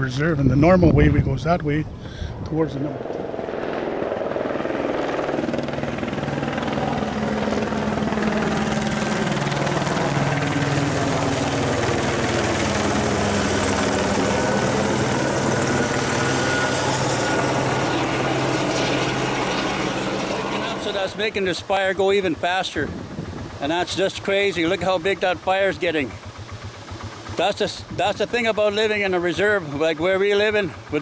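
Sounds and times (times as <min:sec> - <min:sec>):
helicopter rotor chop: 0:00.0 - 0:31.0.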